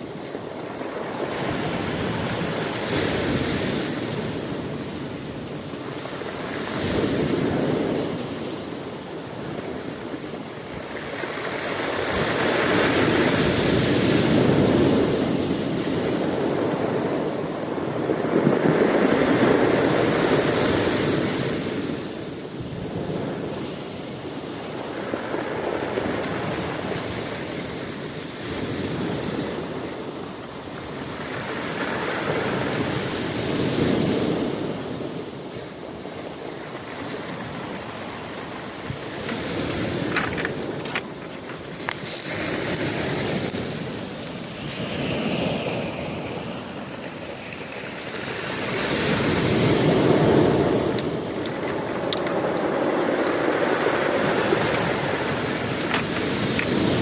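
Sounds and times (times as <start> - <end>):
ocean waves breaking: 0.0 - 57.0
wind on microphone: 0.0 - 57.0.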